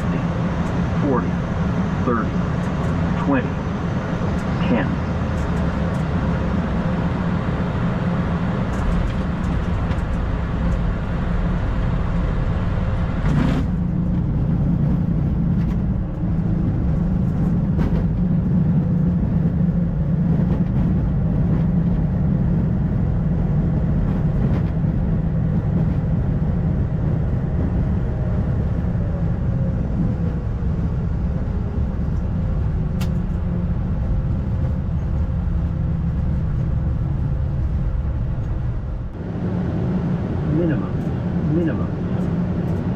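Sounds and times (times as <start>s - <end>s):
engine and runway rumble: 0.0s - 42.9s.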